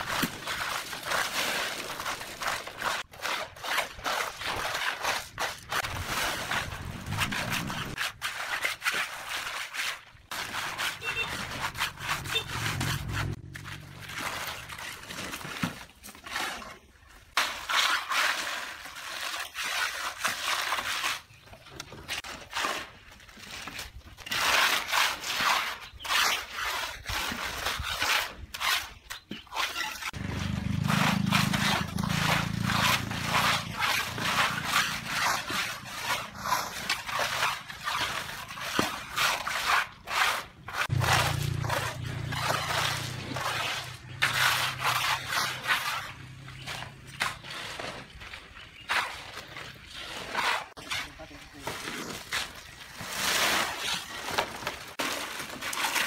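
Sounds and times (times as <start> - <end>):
trowel scraping wet concrete: 0.0 - 56.0.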